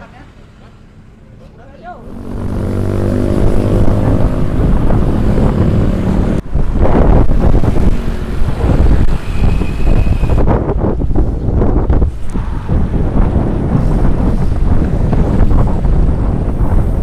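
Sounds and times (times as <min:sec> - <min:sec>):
engine humming: 0:00.0 - 0:16.8
wind buffeting microphone: 0:02.0 - 0:17.0.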